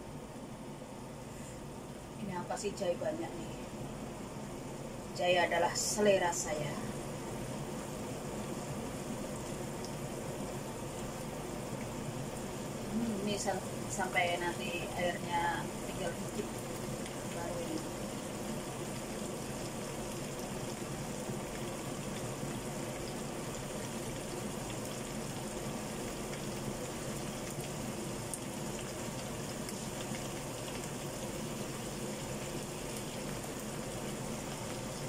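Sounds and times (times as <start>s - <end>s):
sauce simmering in a frying pan: 0.0s - 35.0s.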